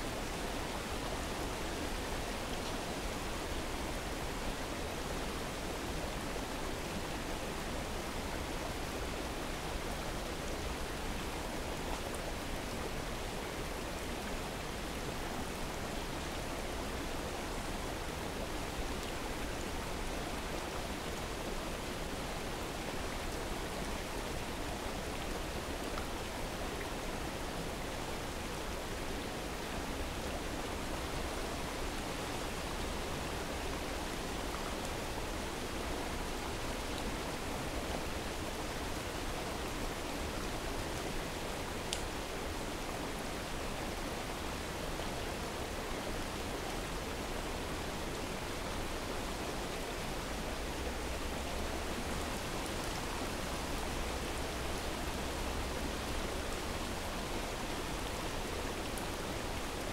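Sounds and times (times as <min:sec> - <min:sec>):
falling rain: 0:00.0 - 0:59.9.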